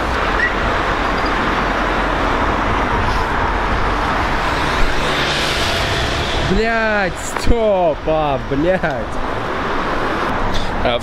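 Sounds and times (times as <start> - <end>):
busy road traffic: 0.0 - 11.0.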